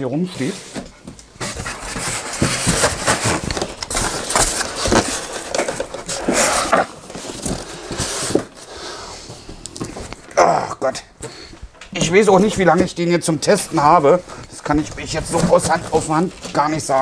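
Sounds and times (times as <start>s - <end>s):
cardboard and styrofoam rustling: 0.2s - 10.1s, 12.0s - 17.0s.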